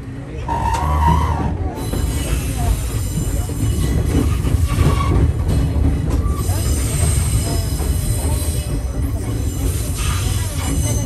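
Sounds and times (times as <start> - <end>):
train wheels rumbling: 0.0 - 11.0
wheel flanges squealing: 0.4 - 11.0.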